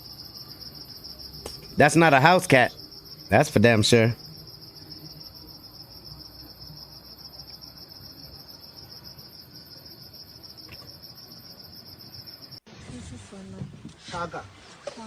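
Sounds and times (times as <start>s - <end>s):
crickets chirring: 0.0s - 12.6s.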